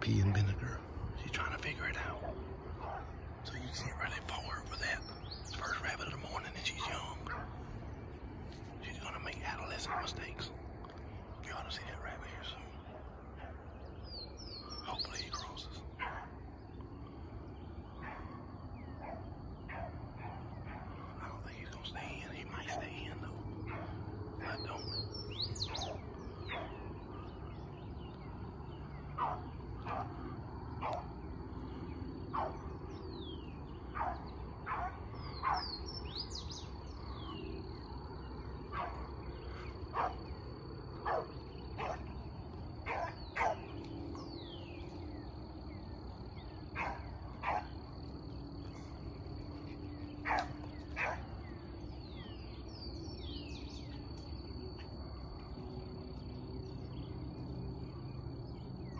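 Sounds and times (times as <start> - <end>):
birds chirping: 0.0 - 58.9
insect droning: 0.0 - 58.9.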